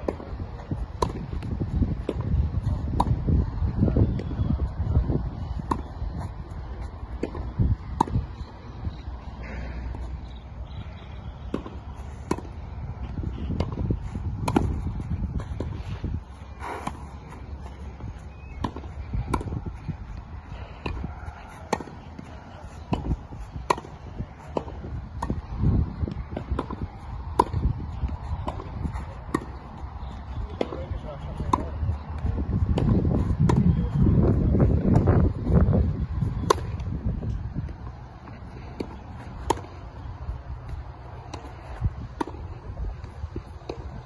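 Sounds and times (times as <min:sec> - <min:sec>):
tennis balls struck and bouncing: 0:00.0 - 0:44.0.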